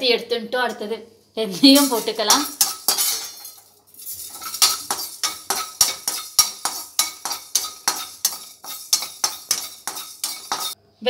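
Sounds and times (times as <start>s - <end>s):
seeds rattling on a pan: 1.6s - 10.8s
utensil scraping a dry pan: 1.7s - 10.8s.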